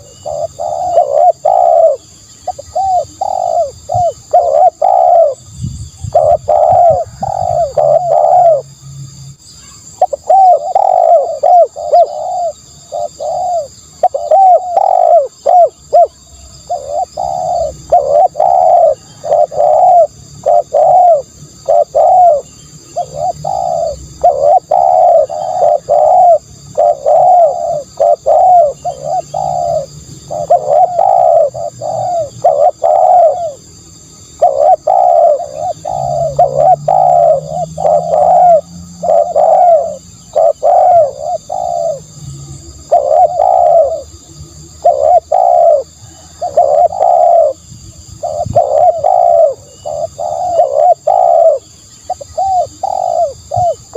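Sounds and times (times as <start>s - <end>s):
dove cooing: 0.0s - 8.8s, 9.6s - 53.9s.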